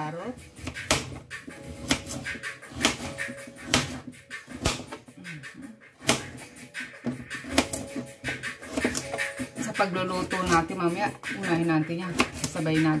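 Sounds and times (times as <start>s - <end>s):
knife chopping carrot on board: 0.5s - 5.1s, 6.0s - 13.0s.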